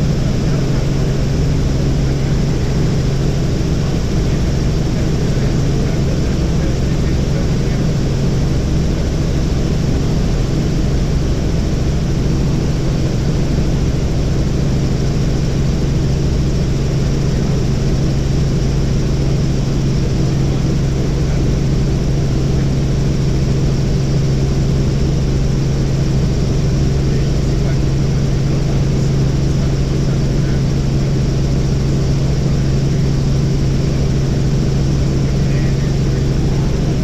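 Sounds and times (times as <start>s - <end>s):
helicopter rotor and engine drone: 0.0s - 37.0s.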